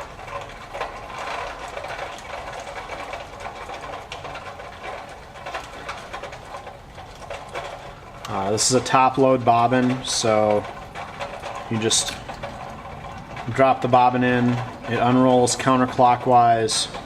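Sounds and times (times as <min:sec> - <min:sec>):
clicks and rustling from hands: 0:00.0 - 0:17.0.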